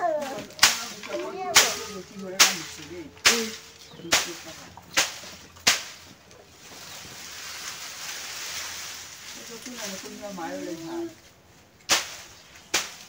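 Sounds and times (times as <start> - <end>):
dry stalks and pods rustling: 0.0 - 13.0
stick whacking bean plants: 0.0 - 13.0.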